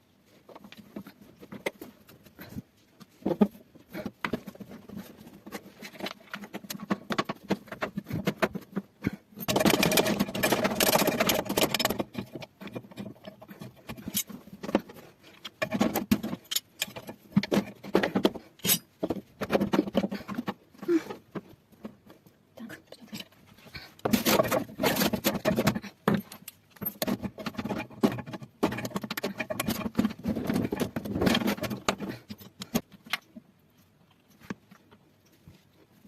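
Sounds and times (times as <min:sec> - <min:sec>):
dense rattling and scraping: 0:00.1 - 0:36.0
clicks and knocks of parts handled: 0:00.3 - 0:36.0.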